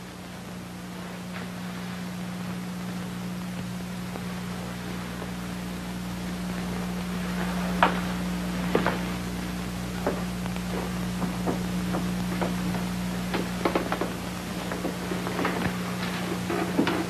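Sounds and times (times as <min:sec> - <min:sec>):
low hum: 0:00.0 - 0:17.0
steady hiss: 0:00.0 - 0:17.0.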